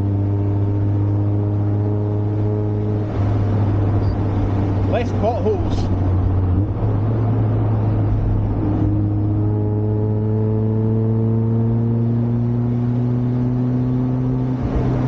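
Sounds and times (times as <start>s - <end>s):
low road drone: 0.0s - 15.0s.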